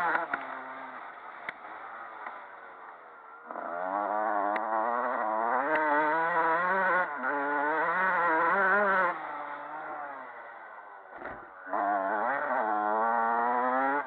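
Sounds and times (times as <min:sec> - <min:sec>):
motocross bike engine revving: 0:00.0 - 0:02.4, 0:03.4 - 0:14.0.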